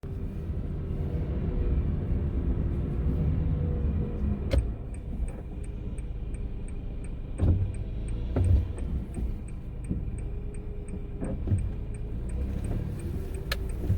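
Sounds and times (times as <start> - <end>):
car road and engine rumble: 0.0 - 13.9.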